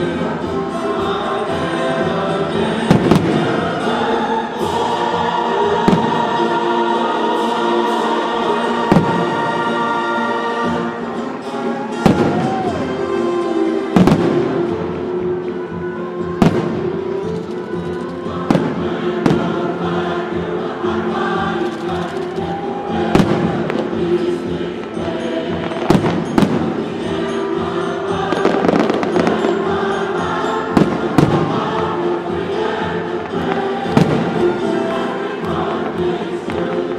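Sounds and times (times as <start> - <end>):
choral music: 0.0 - 36.9
fireworks bursting: 1.2 - 10.7, 11.8 - 15.6, 16.3 - 20.5, 21.2 - 36.9.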